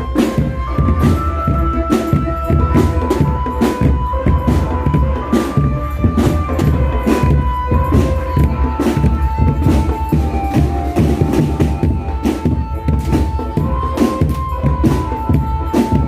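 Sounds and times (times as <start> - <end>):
busy drumming: 0.0 - 16.0.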